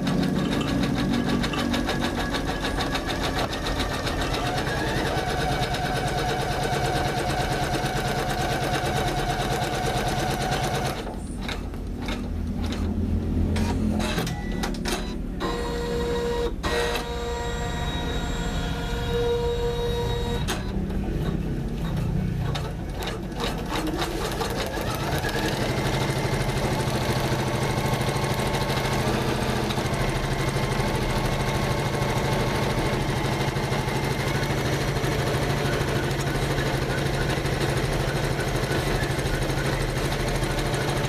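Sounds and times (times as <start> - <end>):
embroidery machine stitching: 0.0 - 41.0.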